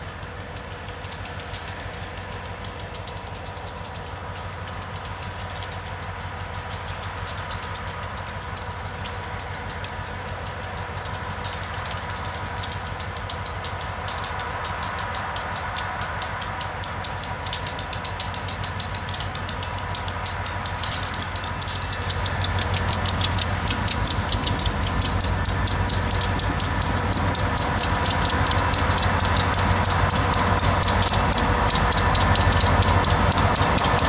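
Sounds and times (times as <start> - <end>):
diesel locomotive engine running: 0.0 - 34.0
rapid sharp high clicking: 0.0 - 34.0.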